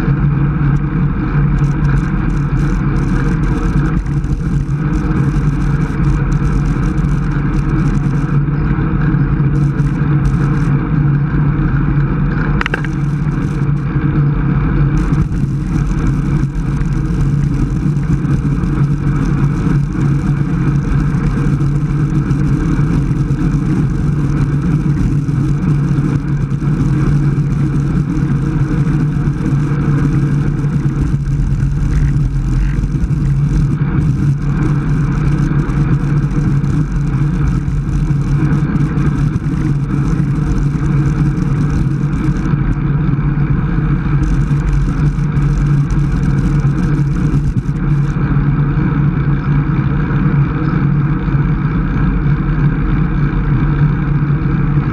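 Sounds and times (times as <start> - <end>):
bike tyres on asphalt: 0.0 - 54.9
wind rushing over microphone: 0.0 - 54.9.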